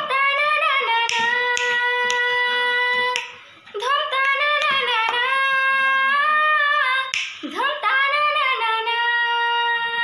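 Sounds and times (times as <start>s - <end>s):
girl singing unaccompanied: 0.0s - 10.0s.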